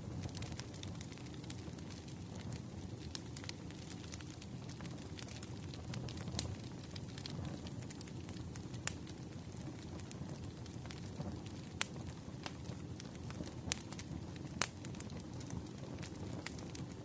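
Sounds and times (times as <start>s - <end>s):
low rumble of burning logs: 0.0s - 17.0s
wood fire crackling: 0.0s - 17.0s.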